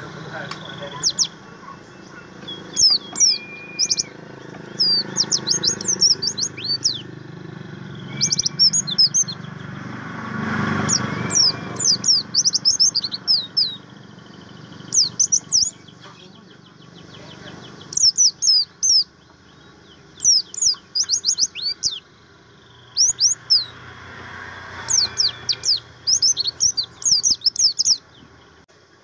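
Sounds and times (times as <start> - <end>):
bird chirping and twittering: 0.0 - 29.0.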